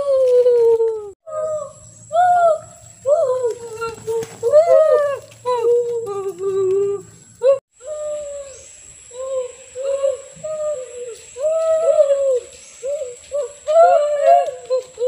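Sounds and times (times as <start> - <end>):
children making wordless calls: 0.0 - 15.0.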